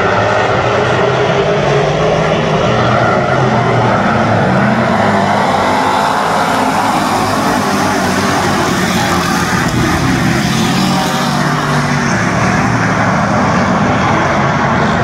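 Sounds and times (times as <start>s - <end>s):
race car engines droning: 0.0s - 15.0s
race car passing close: 0.0s - 15.0s.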